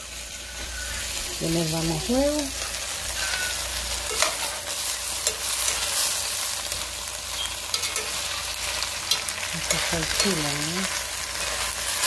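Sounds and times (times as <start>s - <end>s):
chiles sizzling in oil: 0.0s - 12.0s.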